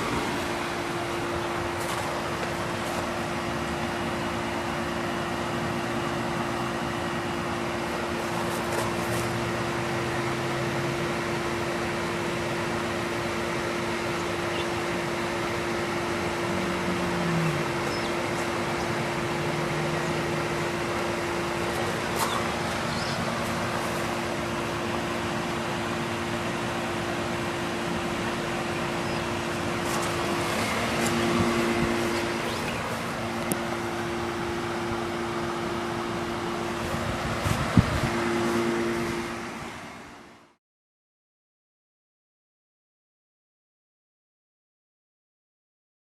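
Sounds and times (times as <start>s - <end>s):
air conditioner air rush: 0.0s - 40.6s
low hum: 0.0s - 40.6s.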